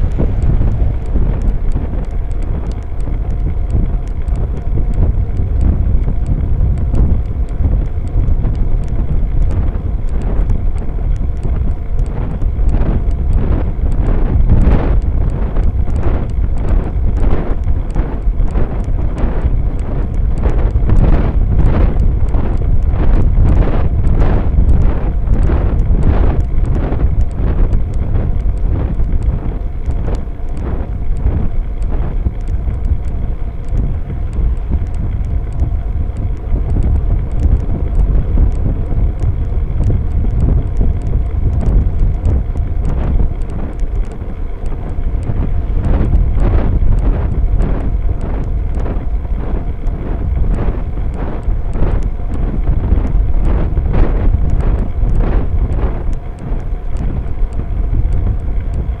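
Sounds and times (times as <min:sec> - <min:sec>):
small clicks and knocks: 0:00.0 - 0:59.0
wind buffeting microphone: 0:00.0 - 0:59.0.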